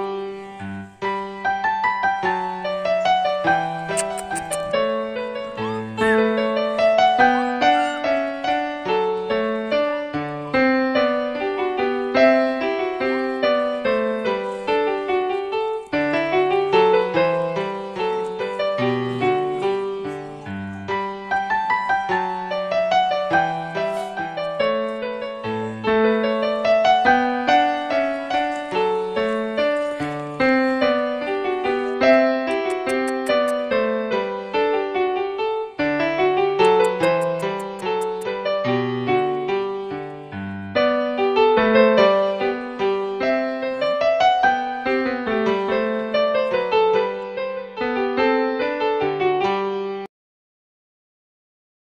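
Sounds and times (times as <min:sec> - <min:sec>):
piano music: 0:00.0 - 0:50.1.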